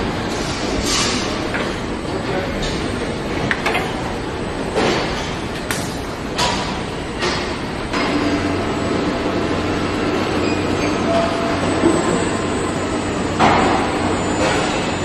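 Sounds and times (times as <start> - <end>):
machine hum and rumble: 0.0 - 15.0.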